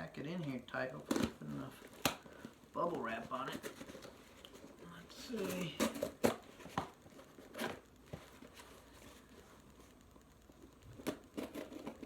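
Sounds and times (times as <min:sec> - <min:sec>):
bubble wrap crinkling and rustling: 0:00.0 - 0:12.0.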